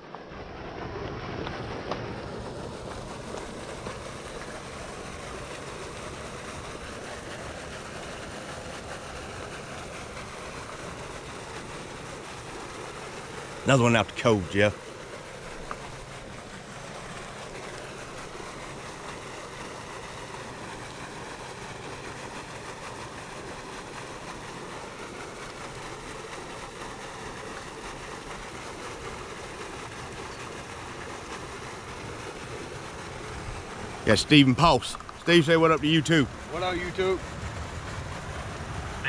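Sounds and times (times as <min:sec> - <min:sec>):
even outdoor hiss: 0:00.0 - 0:39.0
faint steady hum: 0:00.0 - 0:39.0.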